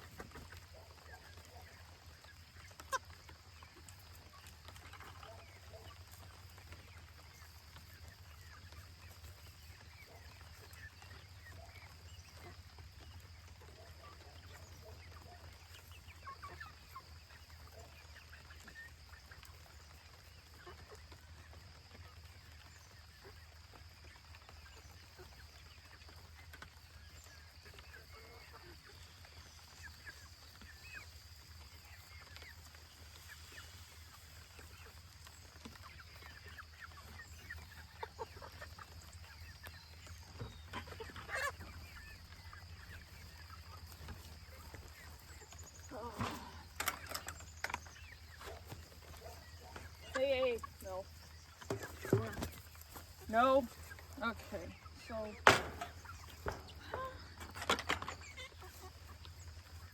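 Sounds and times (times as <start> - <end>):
poultry clucking: 0.0 - 59.9.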